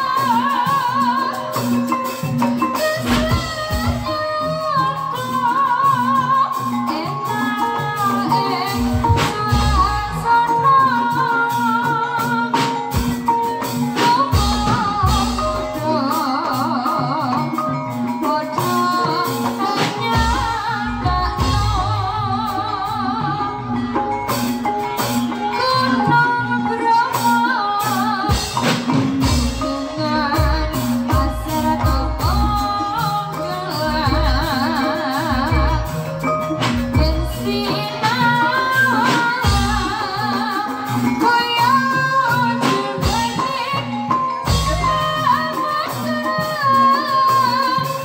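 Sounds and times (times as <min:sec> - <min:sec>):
drum strokes: 0:00.0 - 0:48.0.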